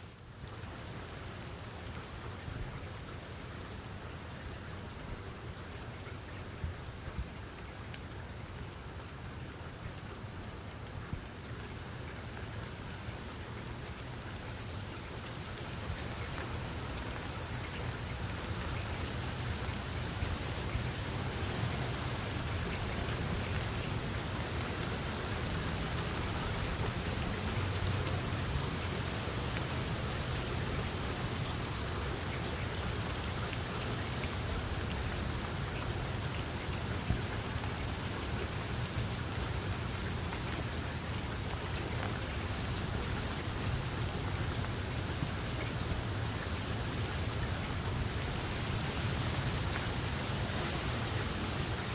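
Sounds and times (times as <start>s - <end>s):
rain falling on ground: 0.0s - 51.9s.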